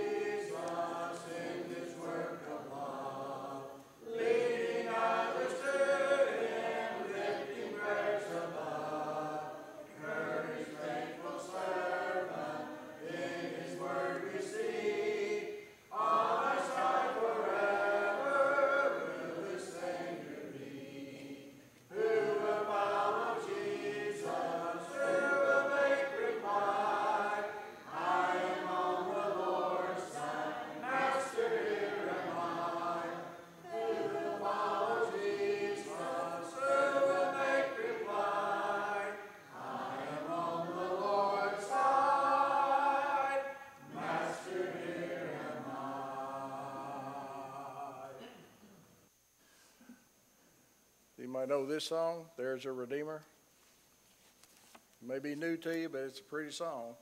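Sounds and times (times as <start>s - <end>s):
congregation singing a hymn: 0.0s - 48.8s.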